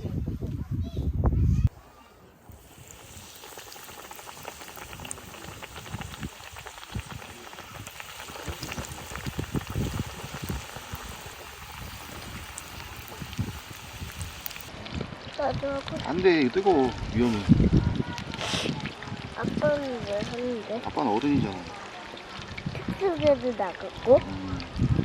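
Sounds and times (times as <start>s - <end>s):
chicken frying in hot oil: 1.8s - 25.0s.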